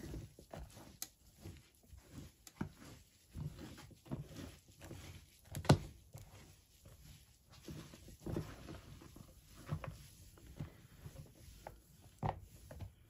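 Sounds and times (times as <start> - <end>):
hands rustling potting soil: 0.0 - 13.0.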